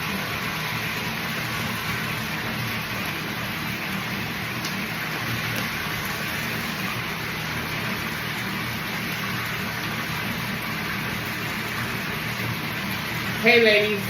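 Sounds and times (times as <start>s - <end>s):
water running from tap: 0.0s - 14.0s.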